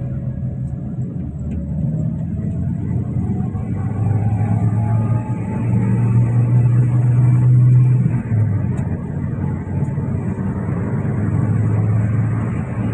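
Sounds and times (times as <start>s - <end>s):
vehicle engine and road noise: 0.0s - 12.9s.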